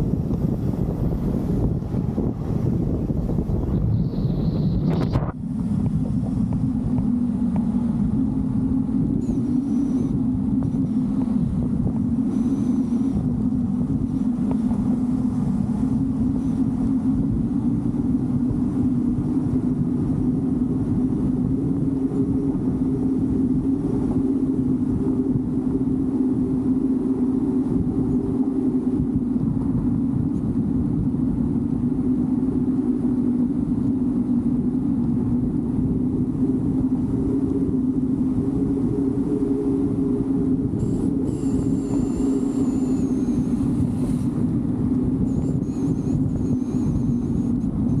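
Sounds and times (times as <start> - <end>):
vehicle engine and road rumble: 0.0 - 48.0.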